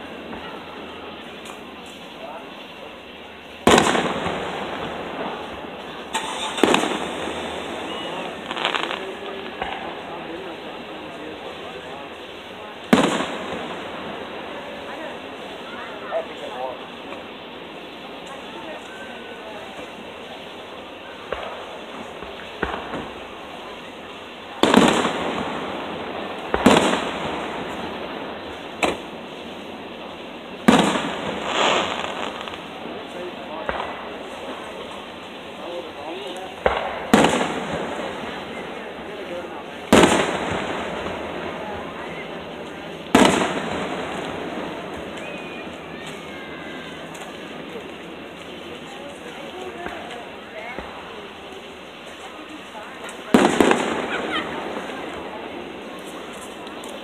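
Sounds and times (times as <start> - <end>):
rolling echo: 0.0 - 57.0
firework shells bursting: 3.6 - 15.6, 20.6 - 35.6, 36.5 - 57.0.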